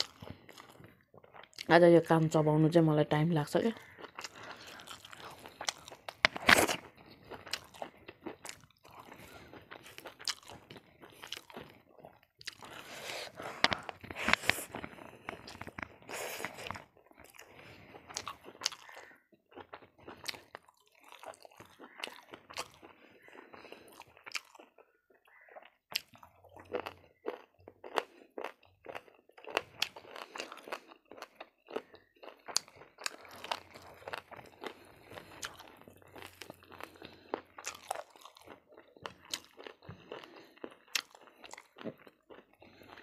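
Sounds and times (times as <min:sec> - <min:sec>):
crunchy chewing: 0:00.0 - 0:01.7, 0:03.8 - 0:43.0.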